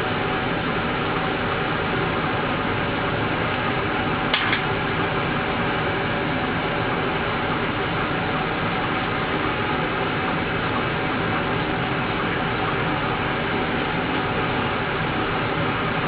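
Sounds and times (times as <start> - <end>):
steady rushing fan noise: 0.0 - 16.0.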